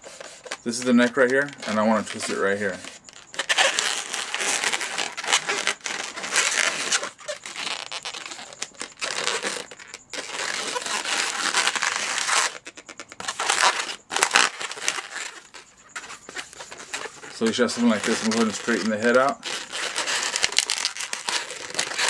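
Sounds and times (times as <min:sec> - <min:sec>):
balloons rubbing: 0:00.0 - 0:22.0.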